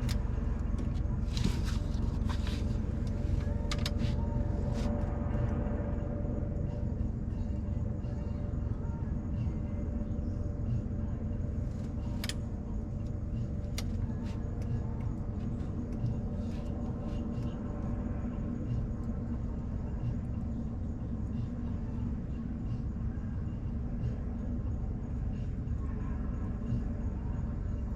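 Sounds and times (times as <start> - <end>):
steady low rumble: 0.0 - 27.9.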